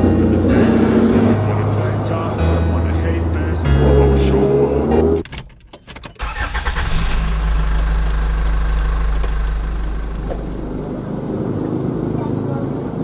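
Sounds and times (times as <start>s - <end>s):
truck engine droning: 0.0s - 5.2s, 6.2s - 12.8s.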